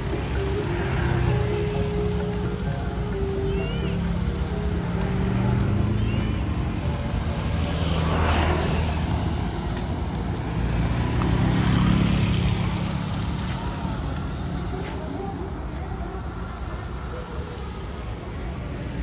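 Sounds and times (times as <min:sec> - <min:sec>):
motorcycles passing by: 0:00.0 - 0:19.0.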